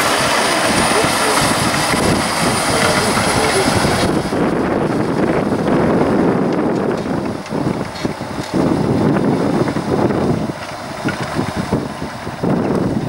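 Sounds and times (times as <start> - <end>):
tractor engine under load: 0.0 - 13.0
wind buffeting microphone: 0.0 - 13.0.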